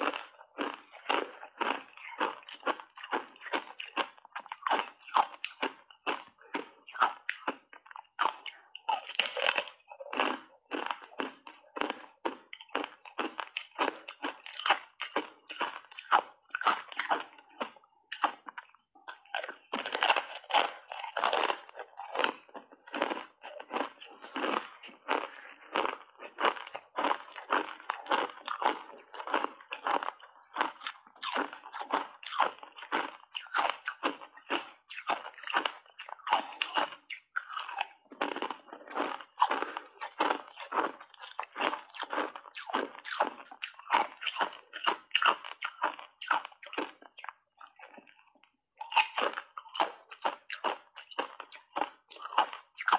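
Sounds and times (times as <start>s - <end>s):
chewing and crunching ice: 0.0s - 52.9s.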